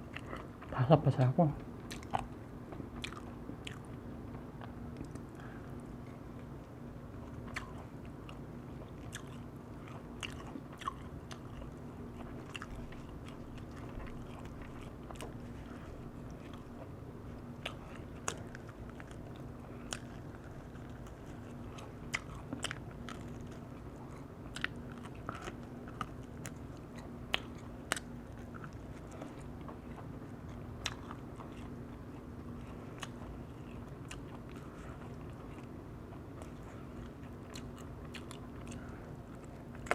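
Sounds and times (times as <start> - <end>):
chewing crispy chicken: 0.0 - 39.9.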